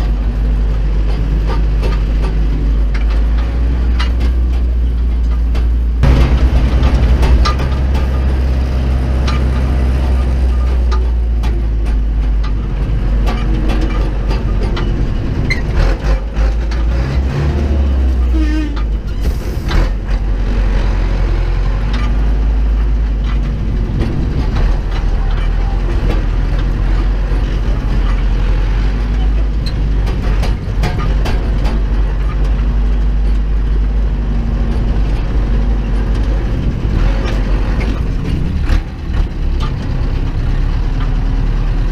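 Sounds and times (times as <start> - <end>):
cab rattling clicks and knocks: 0.0 - 20.9, 21.6 - 41.2
tractor diesel engine running: 0.0 - 41.9.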